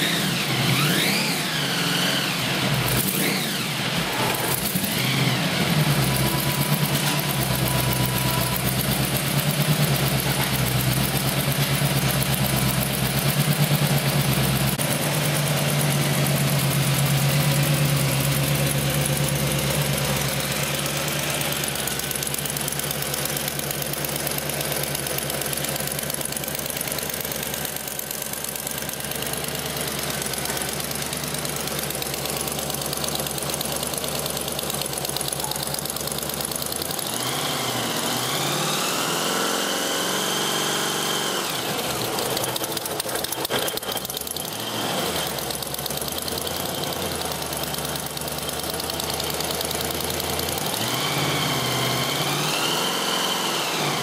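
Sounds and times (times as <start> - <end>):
supercharged car engine idling and revving: 0.0 - 54.0.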